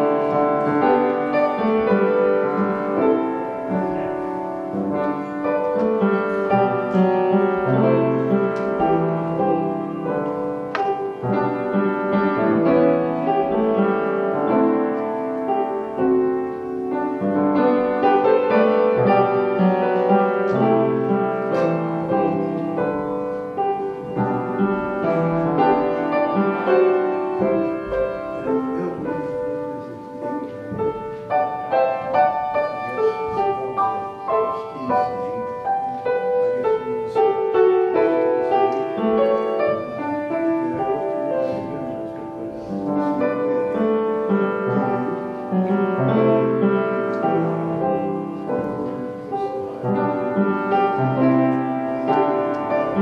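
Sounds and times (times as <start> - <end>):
solo piano playing: 0.0 - 53.0.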